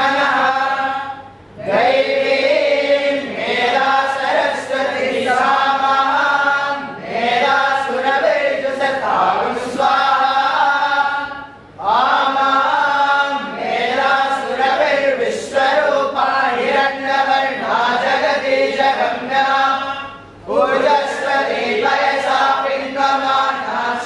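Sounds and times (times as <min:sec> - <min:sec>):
boys chanting in unison: 0:00.0 - 0:24.0.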